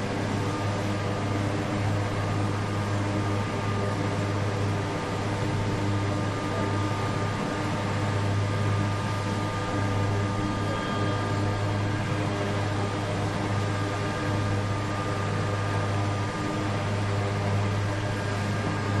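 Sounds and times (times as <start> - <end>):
helicopter engine and rotor hum: 0.0 - 19.0
turbine whine: 0.0 - 19.0.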